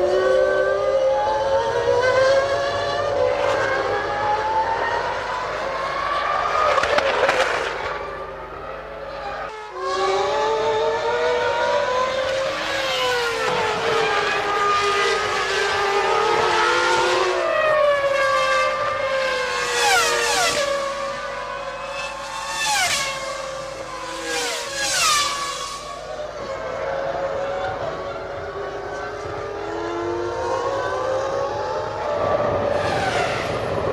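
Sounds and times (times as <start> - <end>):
racing car engines screaming: 0.0 - 33.9.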